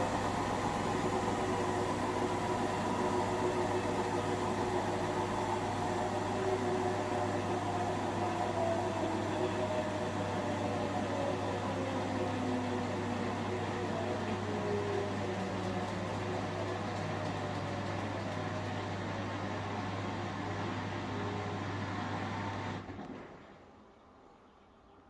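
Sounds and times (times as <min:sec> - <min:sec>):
washing machine spinning: 0:00.0 - 0:22.9.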